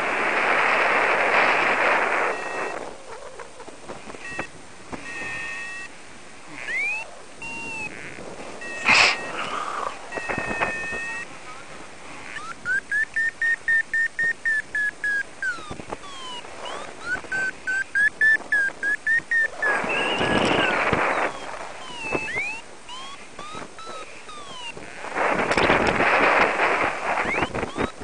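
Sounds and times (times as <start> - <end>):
wind gusts on microphone: 0.0 - 28.0
variometer beeping: 2.3 - 2.8, 4.2 - 11.3, 12.3 - 28.0.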